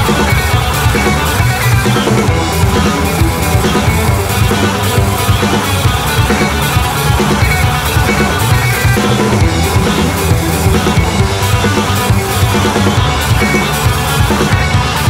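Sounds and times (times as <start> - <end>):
bass: 0.0 - 15.0
distorted electric guitar: 0.0 - 15.0
drums keeping a steady beat: 0.0 - 15.0.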